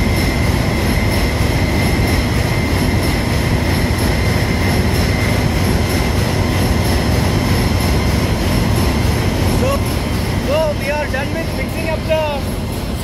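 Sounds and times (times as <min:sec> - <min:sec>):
engine-room machinery drone: 0:00.0 - 0:13.0
thin high whine: 0:00.0 - 0:13.0.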